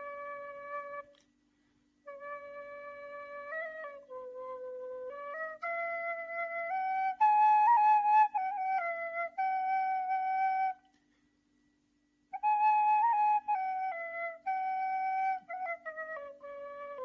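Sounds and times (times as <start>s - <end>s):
reed flute melody: 0.0s - 1.3s, 2.0s - 11.0s, 12.3s - 17.0s.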